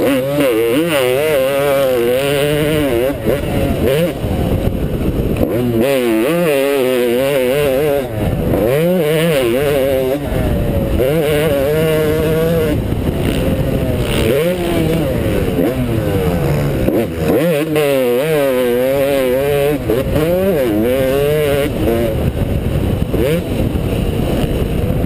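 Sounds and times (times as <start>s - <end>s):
dirt bike engine revving: 0.0s - 25.0s
wind rumble on microphone: 0.0s - 25.0s.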